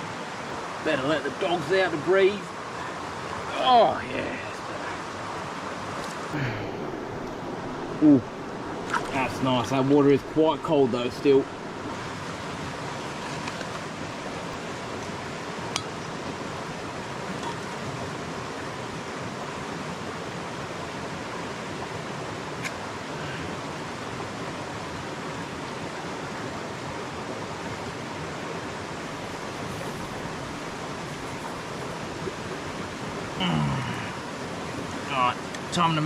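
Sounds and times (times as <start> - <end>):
flowing river water: 0.0 - 36.0.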